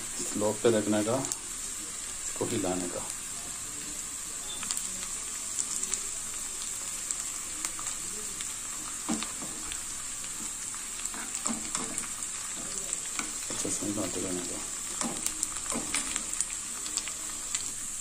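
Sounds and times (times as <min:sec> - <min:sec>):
onion frying with crackles: 0:00.0 - 0:18.0.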